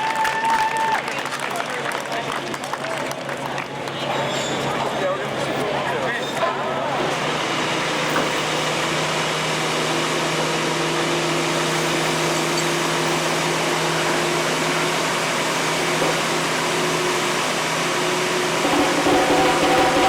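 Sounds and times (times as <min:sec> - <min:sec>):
large engine humming: 0:02.6 - 0:20.0.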